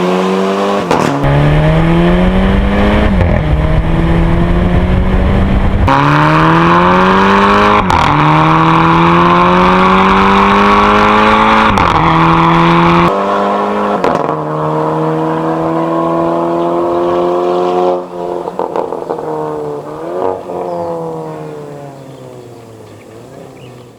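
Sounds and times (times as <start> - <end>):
car engine accelerating hard: 0.0 - 23.9.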